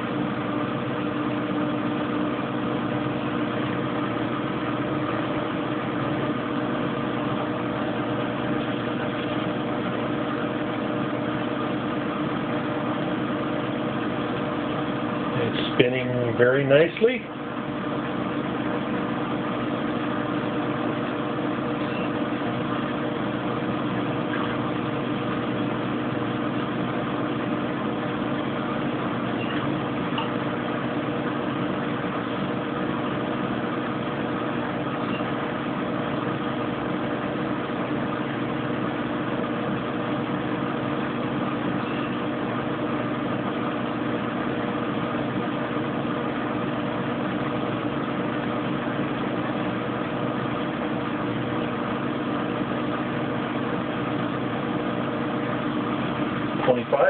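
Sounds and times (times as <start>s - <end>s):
washing machine spinning hum: 0.0s - 57.0s.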